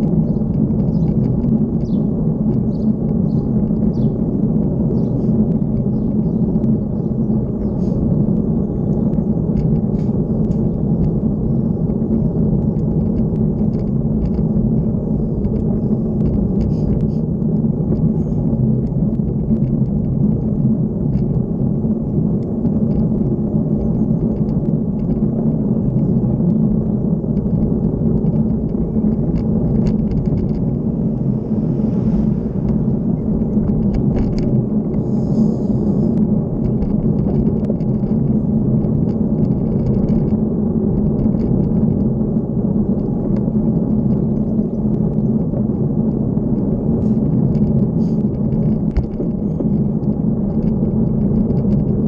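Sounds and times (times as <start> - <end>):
wind rumble on microphone: 0.0 - 52.0.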